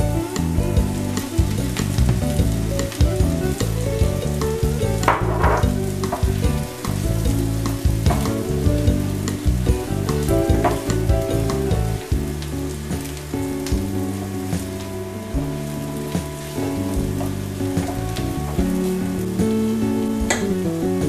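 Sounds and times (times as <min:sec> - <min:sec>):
background music: 0:00.0 - 0:21.0
vegetables sizzling in a pan: 0:00.0 - 0:21.0.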